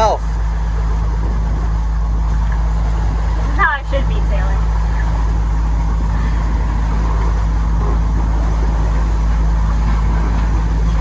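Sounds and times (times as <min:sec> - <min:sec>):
boat engine droning: 0:00.0 - 0:11.0
water rushing: 0:00.0 - 0:11.0
wind: 0:00.0 - 0:11.0.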